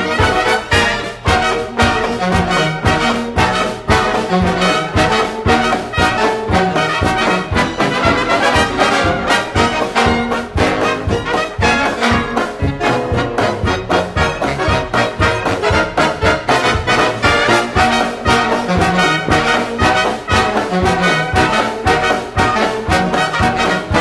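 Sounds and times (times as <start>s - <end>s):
jazz dance band music: 0.0s - 24.0s.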